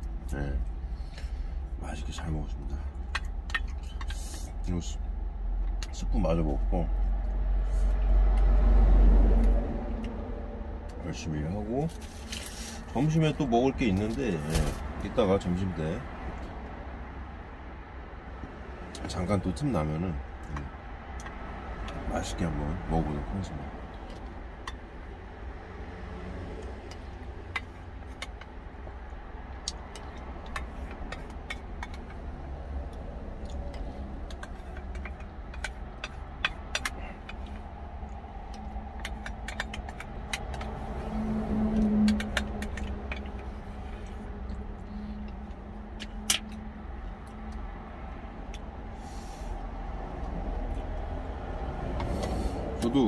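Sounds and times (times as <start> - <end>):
low vehicle engine rumble: 0.0 - 53.0.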